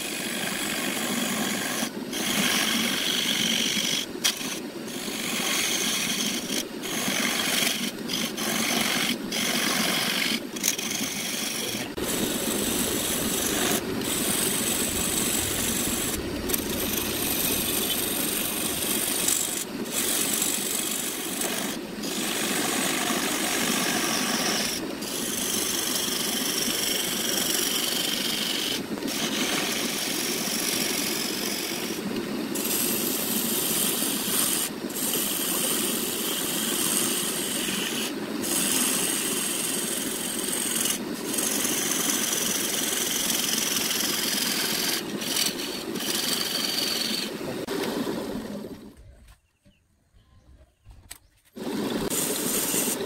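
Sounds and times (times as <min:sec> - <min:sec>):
lathe tool scraping wood: 0:00.0 - 0:48.4, 0:51.6 - 0:53.0.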